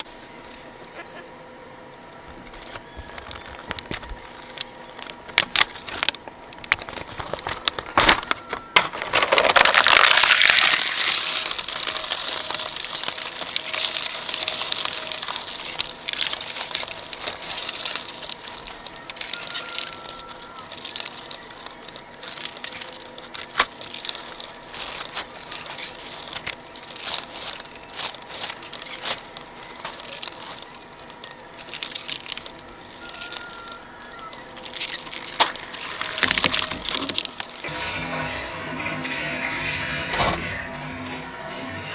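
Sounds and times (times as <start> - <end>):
machine whine: 0.0 - 41.9
shredder grinding plastic: 0.0 - 41.9.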